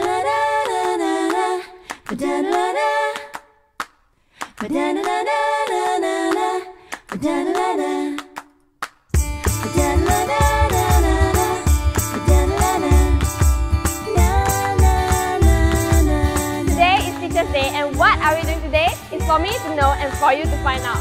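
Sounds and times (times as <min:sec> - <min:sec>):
a cappella singing: 0:00.0 - 0:03.7, 0:04.6 - 0:08.6, 0:09.5 - 0:21.0.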